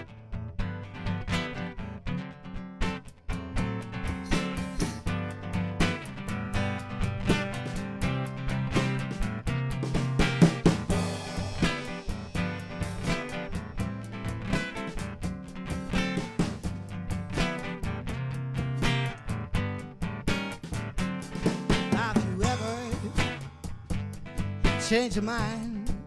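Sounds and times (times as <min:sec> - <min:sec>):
strummed guitar chords: 0:00.0 - 0:26.0
drum kit beat: 0:02.8 - 0:26.0.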